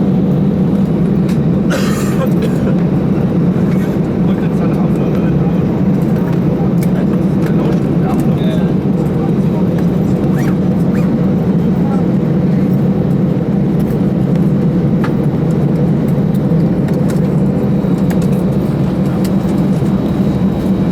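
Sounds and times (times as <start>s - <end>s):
aircraft cabin engine rumble: 0.0s - 20.9s.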